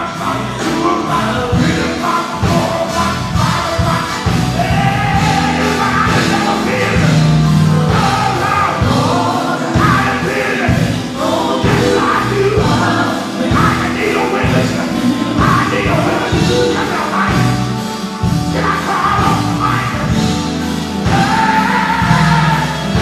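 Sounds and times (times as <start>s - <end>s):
band playing: 0.0s - 23.0s
group singing in harmony: 0.0s - 23.0s.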